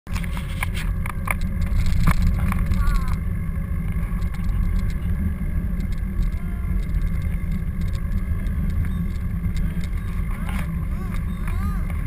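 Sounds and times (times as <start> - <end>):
wind buffeting while cycling: 0.1 - 12.0.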